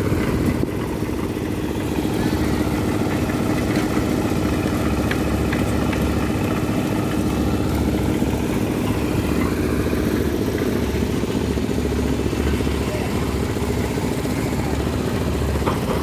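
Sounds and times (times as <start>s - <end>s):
machinery engine running: 0.0s - 16.0s.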